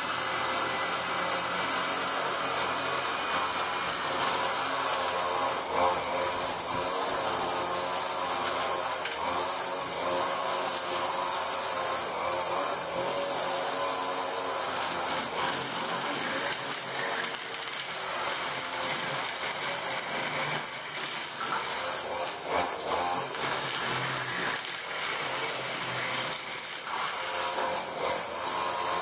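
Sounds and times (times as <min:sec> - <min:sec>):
power tool running: 0:00.0 - 0:29.0.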